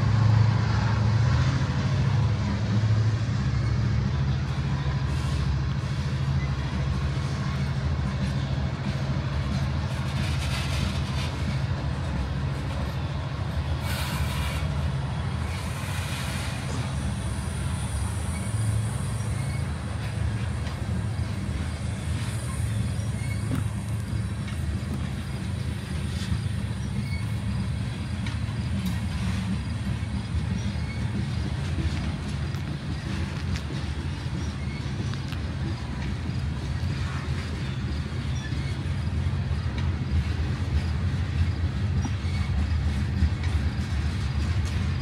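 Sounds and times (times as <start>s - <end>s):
steel wheels rumbling on rails: 0.0s - 45.0s.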